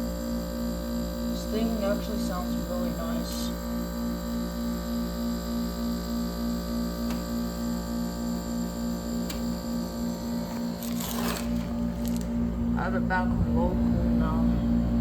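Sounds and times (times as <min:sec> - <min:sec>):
window air conditioner humming: 0:00.0 - 0:15.0.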